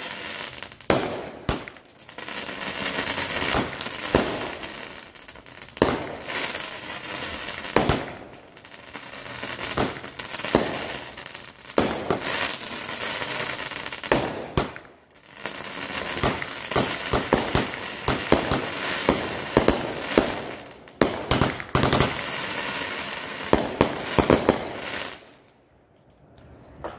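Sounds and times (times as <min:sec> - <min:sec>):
firework bangs: 0:00.0 - 0:25.3
firework crackling: 0:00.0 - 0:25.5.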